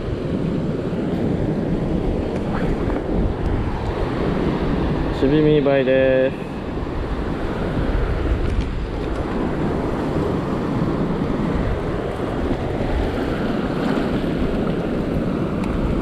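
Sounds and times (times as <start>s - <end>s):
sea waves washing: 0.0s - 16.0s
wind noise on microphone: 0.0s - 16.0s.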